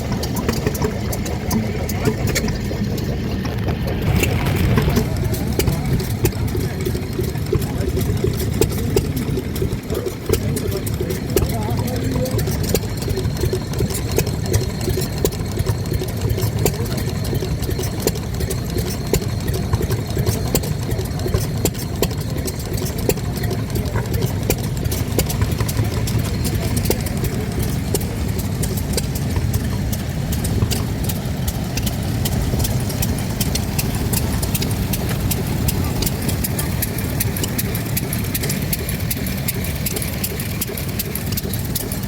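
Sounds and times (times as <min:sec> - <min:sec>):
engine valve ticks and knocks: 0:00.0 - 0:42.0
stationary engines droning: 0:00.0 - 0:42.0.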